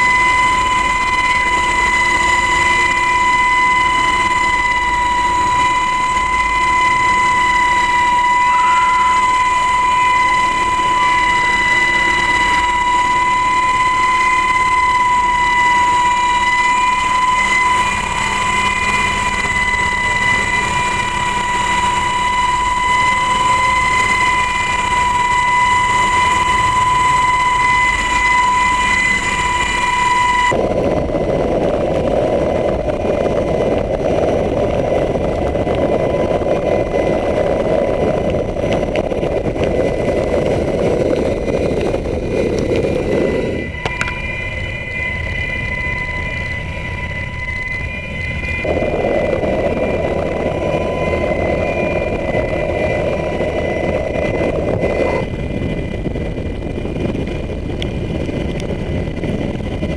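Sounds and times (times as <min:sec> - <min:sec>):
helicopter turbine whine: 0:00.0 - 0:59.9
rotor wash and wind rushing: 0:00.0 - 0:59.9.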